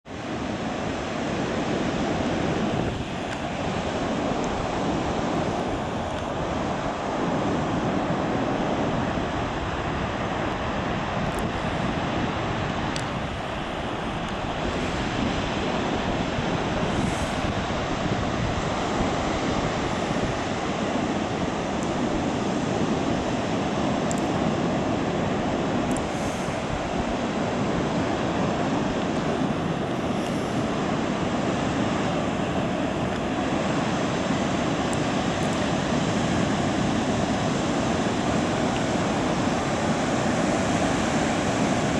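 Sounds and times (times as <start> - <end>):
wind on microphone: 0.0 - 41.9
heavy surf breaking: 0.1 - 41.9.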